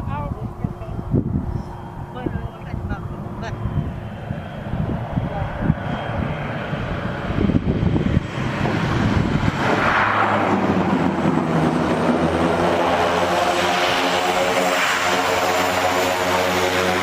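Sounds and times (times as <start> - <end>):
propeller airplane engines droning: 0.0 - 17.0.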